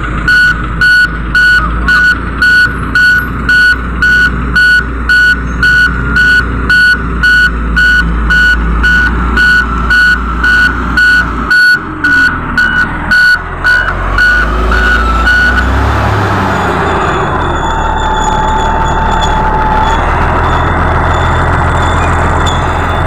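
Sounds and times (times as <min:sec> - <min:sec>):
diesel engine rumble: 0:00.0 - 0:23.0
reversing alarm beeping: 0:00.2 - 0:23.0.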